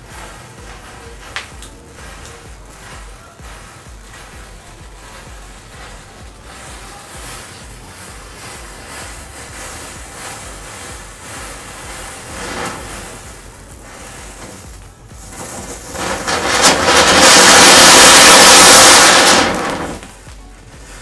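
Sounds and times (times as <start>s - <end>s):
firework spraying sparks hissing: 0.0s - 21.0s.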